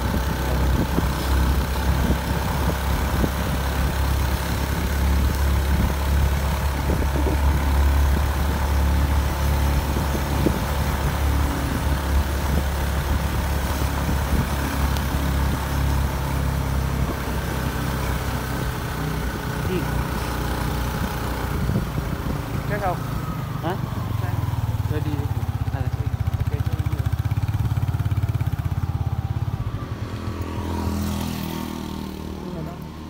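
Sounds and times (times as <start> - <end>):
tyres on wet asphalt: 0.0 - 33.0
vehicle engine rumble: 0.0 - 33.0.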